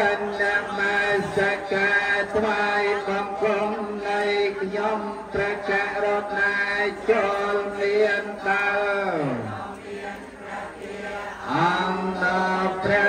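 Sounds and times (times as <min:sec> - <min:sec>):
monks chanting: 0:00.0 - 0:13.0.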